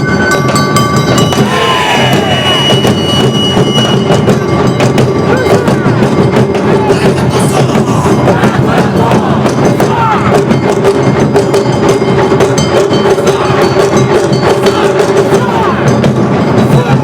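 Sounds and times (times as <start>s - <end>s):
drums: 0.0s - 17.0s.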